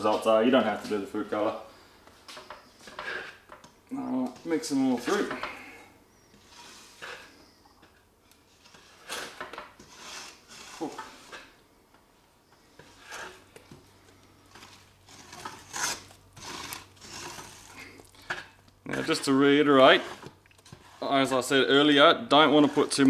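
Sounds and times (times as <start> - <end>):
wooden spoon stirring in a metal pot: 2.3 - 11.6, 12.5 - 23.0.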